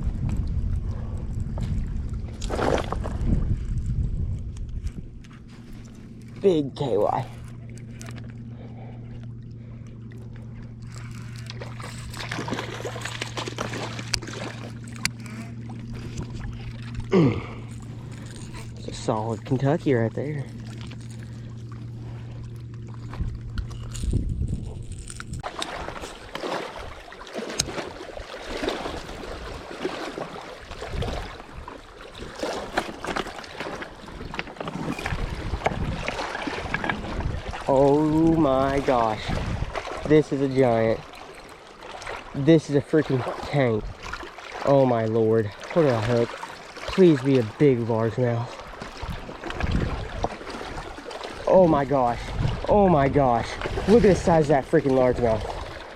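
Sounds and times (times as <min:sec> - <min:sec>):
boat motor humming: 0:00.0 - 0:55.9
water splashing and trickling: 0:00.0 - 0:55.9
wind: 0:00.0 - 0:55.9.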